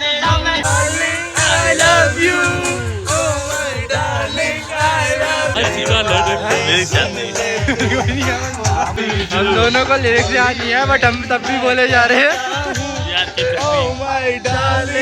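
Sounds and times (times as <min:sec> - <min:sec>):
man singing with music: 0:00.0 - 0:15.0.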